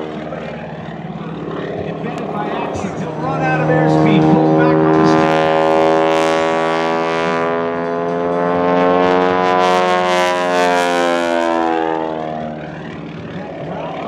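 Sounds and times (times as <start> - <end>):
propeller plane engine diving: 0.0 - 14.0.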